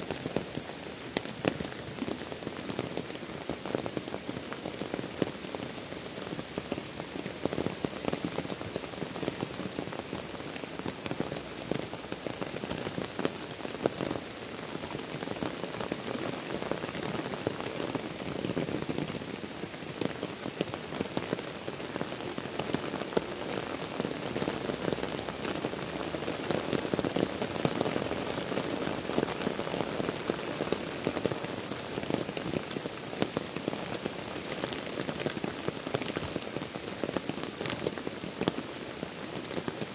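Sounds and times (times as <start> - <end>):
heavy rain on water: 0.0 - 39.9.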